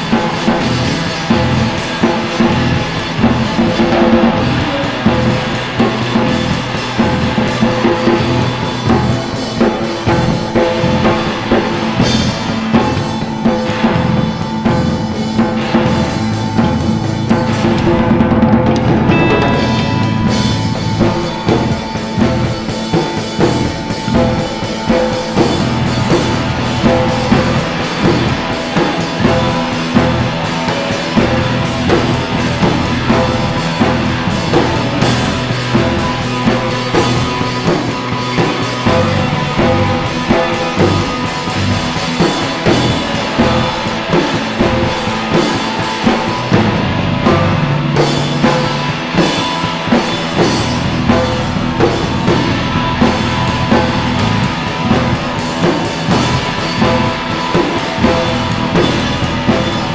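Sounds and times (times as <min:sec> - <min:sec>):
song with drum beat: 0:00.0 - 0:59.9.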